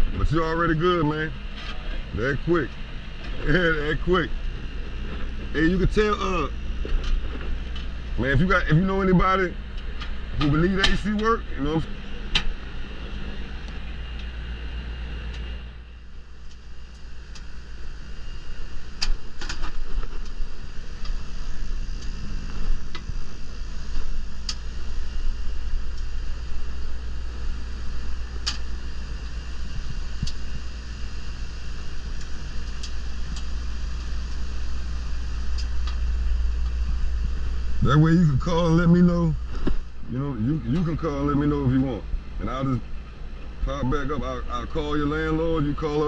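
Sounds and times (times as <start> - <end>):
air conditioner unit humming: 0.0 - 46.0.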